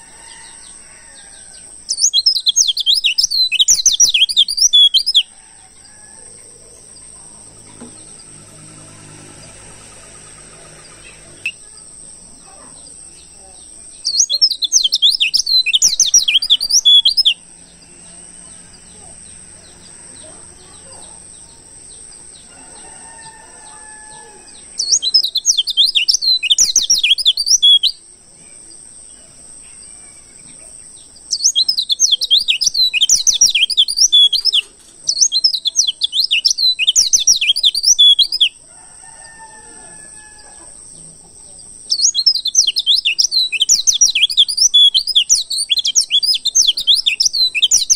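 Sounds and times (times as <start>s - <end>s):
bird twittering chirps: 0.0s - 47.9s.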